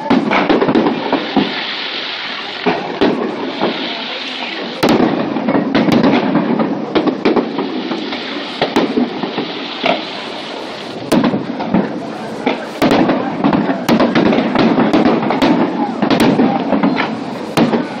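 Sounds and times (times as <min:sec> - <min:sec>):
fireworks bursting: 0:00.0 - 0:18.0
fireworks crackle: 0:00.0 - 0:18.0.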